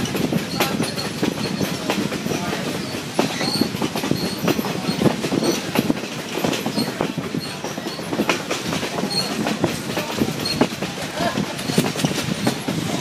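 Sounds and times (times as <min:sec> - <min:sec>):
high wheel squeaks: 0:00.0 - 0:13.0
train wheels clicking over rails: 0:00.0 - 0:13.0.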